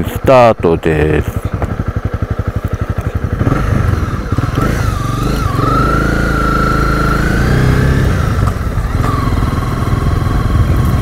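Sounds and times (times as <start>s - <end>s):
motorcycle engine idling and pulling away: 0.0s - 11.0s.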